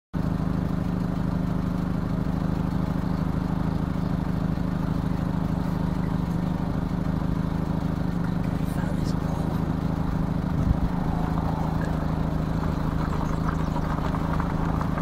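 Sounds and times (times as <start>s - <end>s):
car engine idling: 0.2s - 15.0s.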